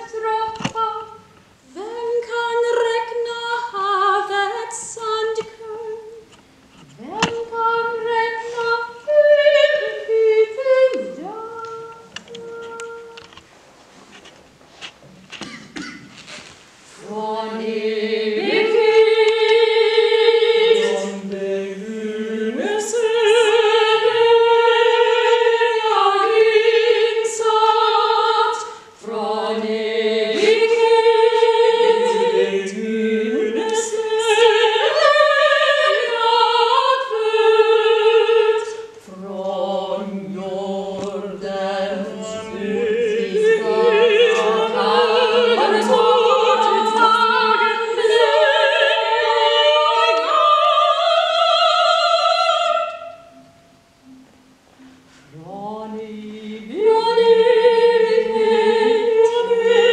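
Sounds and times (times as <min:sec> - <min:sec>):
female choir singing in harmony: 0:00.0 - 0:06.2, 0:07.0 - 0:13.4, 0:16.9 - 0:59.9.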